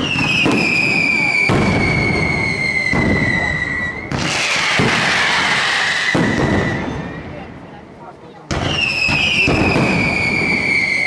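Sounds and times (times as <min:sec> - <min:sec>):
firework whistle falling in pitch: 0:00.0 - 0:07.4, 0:08.6 - 0:11.0.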